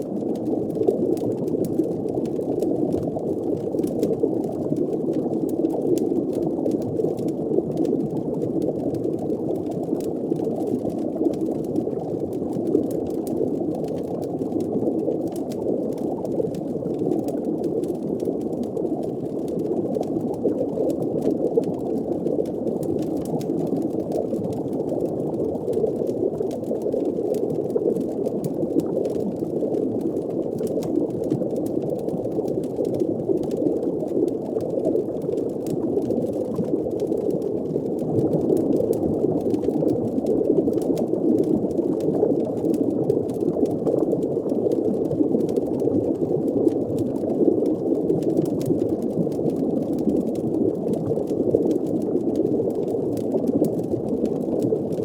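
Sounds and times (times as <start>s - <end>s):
underwater bubbling and rumbling: 0.0s - 55.0s.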